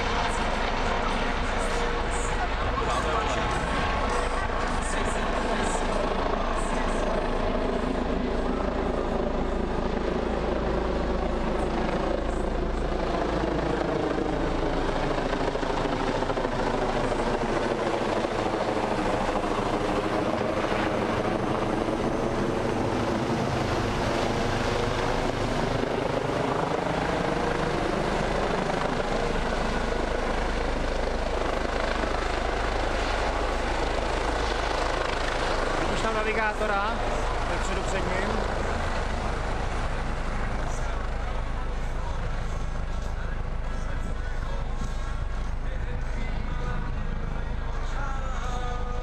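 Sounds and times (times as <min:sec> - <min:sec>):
helicopter flying overhead: 0:00.0 - 0:49.0.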